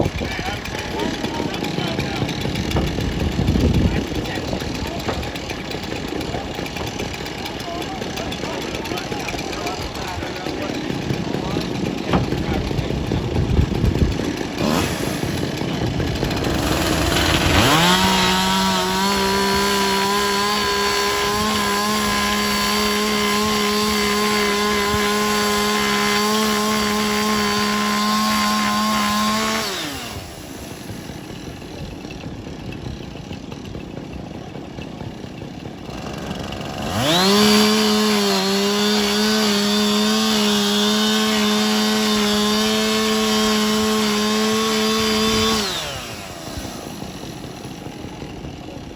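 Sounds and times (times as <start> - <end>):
chainsaw idling and revving: 0.0 - 48.9.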